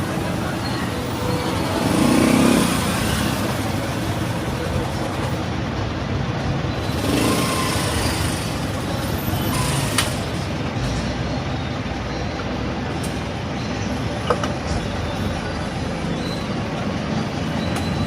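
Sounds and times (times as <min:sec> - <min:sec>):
road vehicle rumble: 0:00.0 - 0:18.0.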